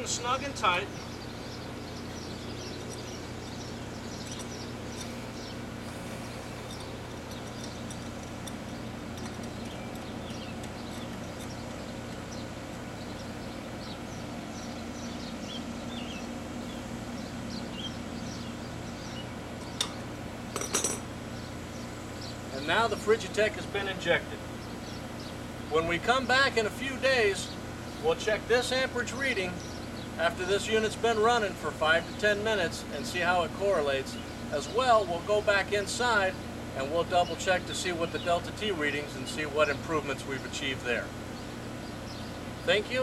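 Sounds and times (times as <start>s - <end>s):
air conditioner hum: 0.0s - 43.0s
birds chirping: 0.0s - 43.0s.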